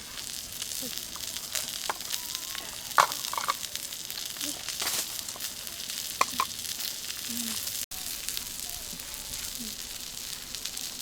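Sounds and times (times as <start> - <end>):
food frying sizzle: 0.0 - 11.0
sharp pops and crackles: 0.0 - 11.0.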